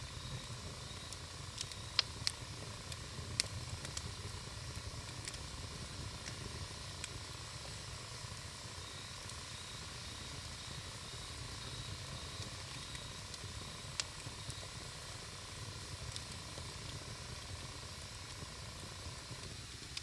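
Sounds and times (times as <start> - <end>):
campfire hiss and rumble: 0.0 - 20.0
fire crackles and pops: 0.0 - 20.0.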